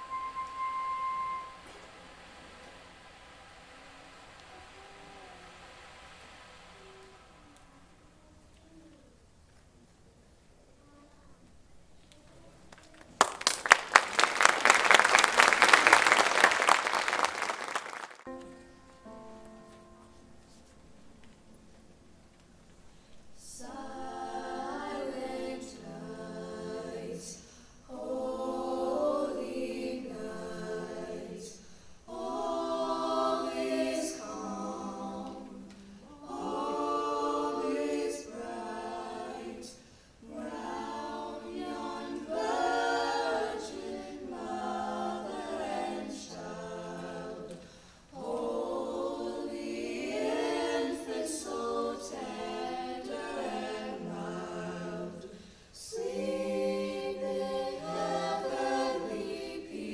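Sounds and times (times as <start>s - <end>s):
choir singing holiday music: 0.0s - 8.3s, 18.2s - 59.9s.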